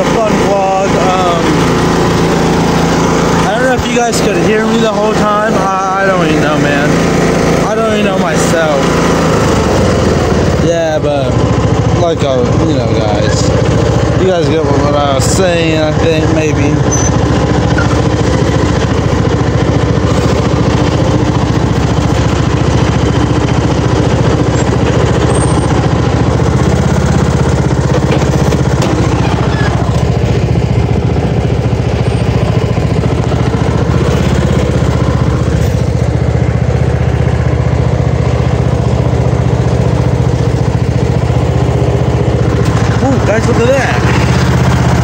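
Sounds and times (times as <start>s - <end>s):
riding lawn mower engine running: 0.0s - 45.0s.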